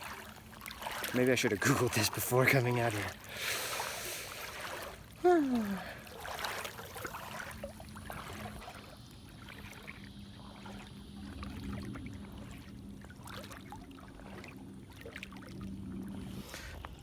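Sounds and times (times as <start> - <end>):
steady low hum: 0.0 - 17.0
water sloshing and splashing: 0.0 - 17.0.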